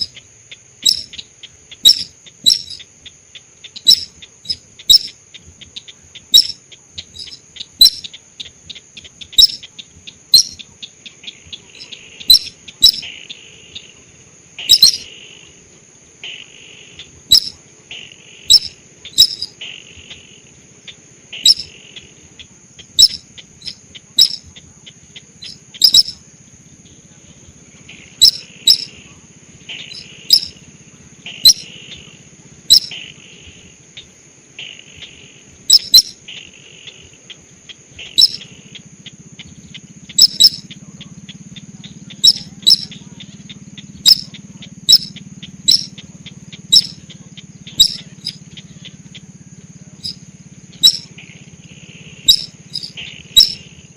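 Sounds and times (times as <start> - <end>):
sharp bird chirps: 0.0 - 13.9, 14.6 - 15.1, 16.4 - 19.8, 20.8 - 27.1, 27.9 - 32.1, 32.7 - 33.2, 34.0 - 53.9
short raspy bird calls: 0.0 - 13.9, 14.6 - 15.1, 16.3 - 20.2, 21.4 - 26.2, 27.8 - 33.2, 34.0 - 49.3, 50.0 - 51.2, 52.1 - 53.8
high insect-like trill: 0.0 - 14.0, 14.6 - 15.6, 17.0 - 17.6, 18.2 - 34.2, 34.8 - 53.9.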